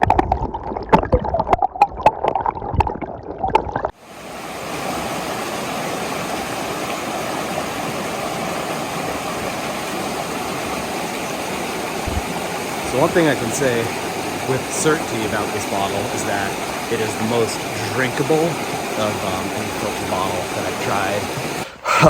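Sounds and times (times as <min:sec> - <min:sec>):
water sloshing and gurgling: 0:00.0 - 0:21.7
flowing stream: 0:00.0 - 0:22.0.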